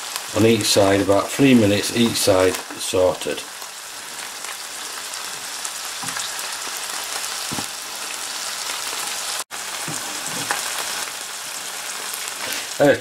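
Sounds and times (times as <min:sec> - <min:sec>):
crackling oil spatters: 0:00.0 - 0:12.8
fish frying in hot oil: 0:00.0 - 0:13.0.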